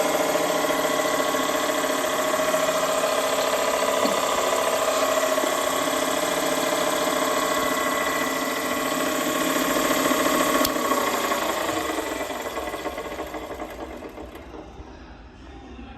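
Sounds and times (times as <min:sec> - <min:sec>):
cut-off machine humming and whining: 0:00.0 - 0:15.3.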